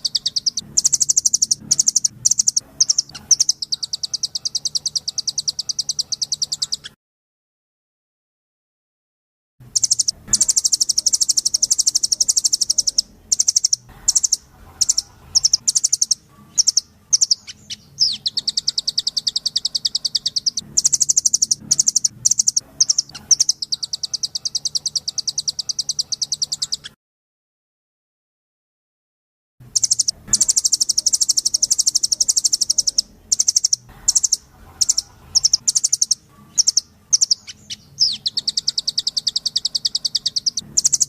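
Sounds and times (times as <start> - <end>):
songbird chattering trills: 0.0 - 7.0, 9.7 - 27.0, 29.7 - 41.0.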